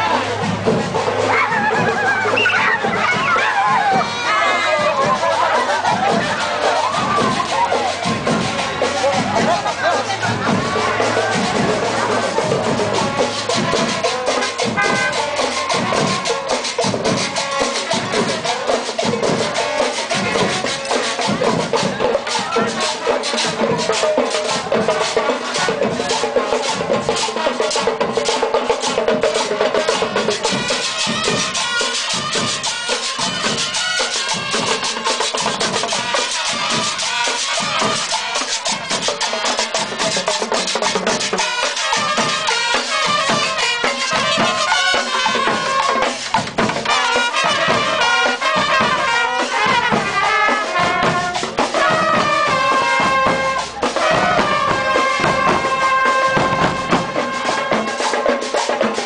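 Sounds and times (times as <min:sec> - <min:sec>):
marching band playing: 0:00.0 - 0:59.0
snare and bass drums: 0:00.0 - 0:59.0.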